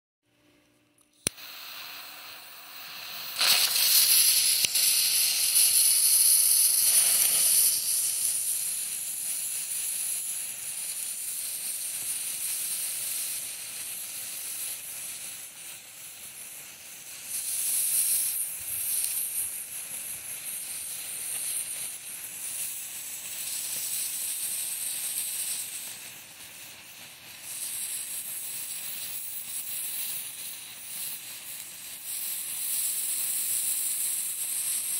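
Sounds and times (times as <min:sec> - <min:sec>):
jet-flame lighter hissing: 0:01.0 - 0:34.9
sparklers fizzing: 0:01.2 - 0:34.9.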